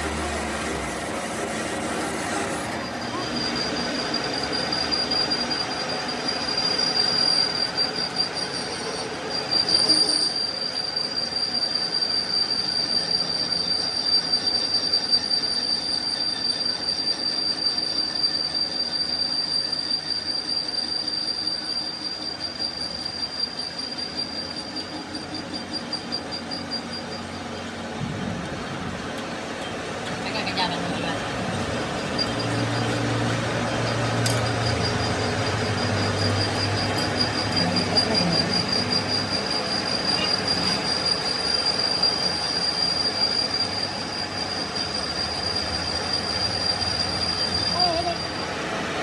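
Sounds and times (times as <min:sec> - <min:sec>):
high-pitched machining squeal: 0:00.0 - 0:49.0.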